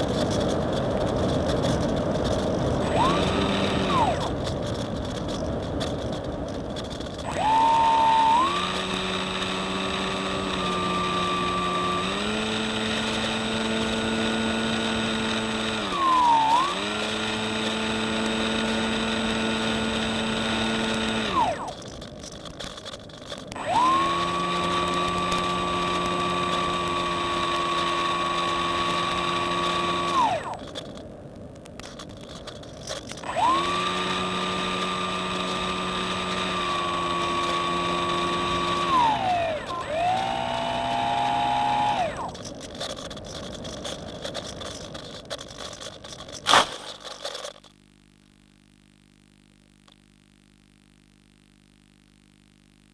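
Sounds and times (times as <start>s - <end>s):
model plane motor whining: 0.0s - 31.0s, 31.8s - 47.6s.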